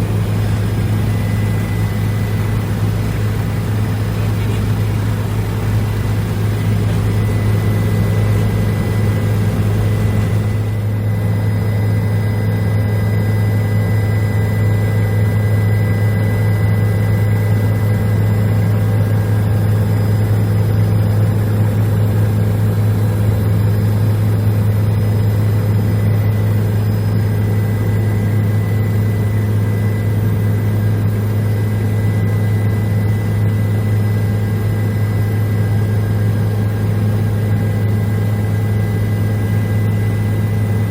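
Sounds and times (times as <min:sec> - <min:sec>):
faint high whine: 0:00.0 - 0:40.9
helicopter rotor and engine drone: 0:00.0 - 0:40.9.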